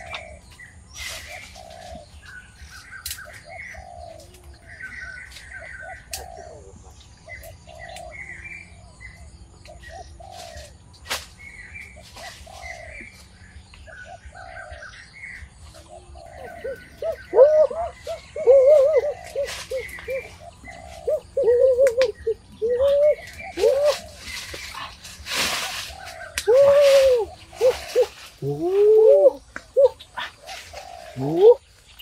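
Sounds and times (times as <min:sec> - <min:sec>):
birds chirping and whistling: 0:00.0 - 0:32.0
low arched bird calls: 0:00.0 - 0:32.0.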